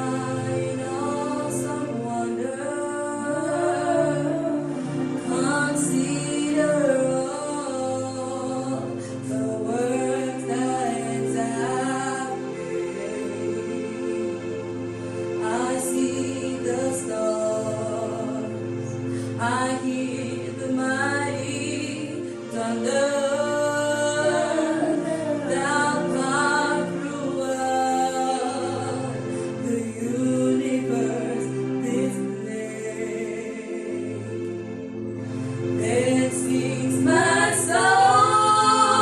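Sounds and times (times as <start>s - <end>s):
gospel singing: 0.0s - 39.0s
instrumental accompaniment: 0.0s - 39.0s.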